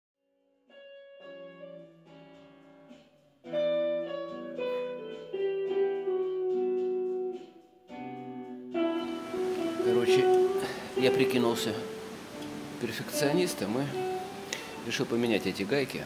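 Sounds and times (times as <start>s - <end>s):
guitar music: 0.7s - 16.0s.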